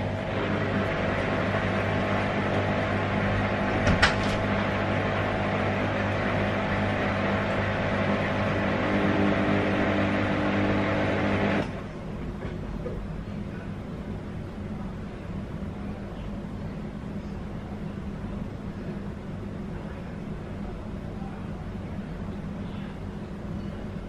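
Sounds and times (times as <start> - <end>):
appliance hum and hiss: 0.0 - 24.0.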